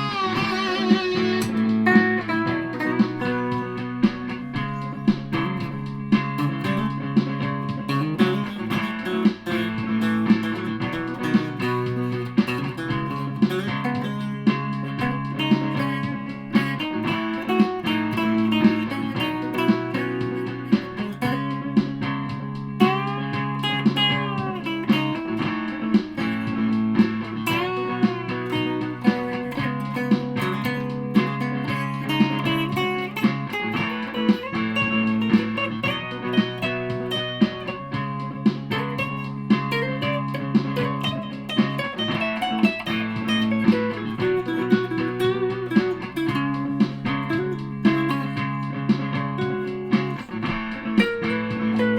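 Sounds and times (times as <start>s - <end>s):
electric guitar lead with bends: 0.0s - 51.9s
sharp rhythmic accents: 0.0s - 51.9s.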